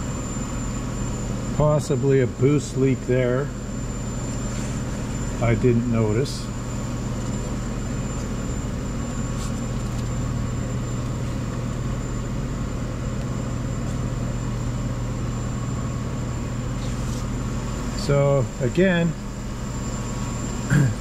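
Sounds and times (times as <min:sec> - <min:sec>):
machine humming with whine: 0:00.0 - 0:21.0.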